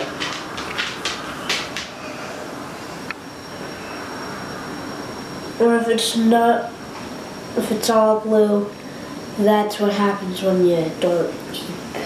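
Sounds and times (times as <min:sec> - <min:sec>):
room noise hiss: 0:00.0 - 0:12.0
faint high-pitched whine: 0:01.2 - 0:12.0.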